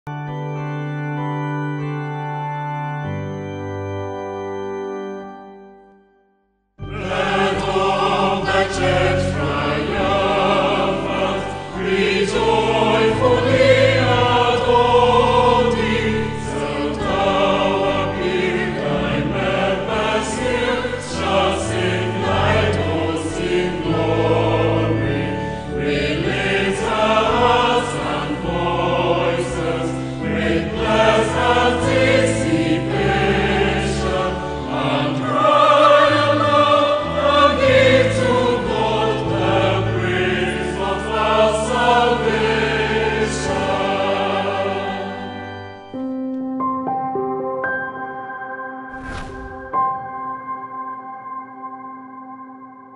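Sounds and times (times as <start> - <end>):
choir singing with accompaniment: 6.8 - 46.1, 48.9 - 52.4.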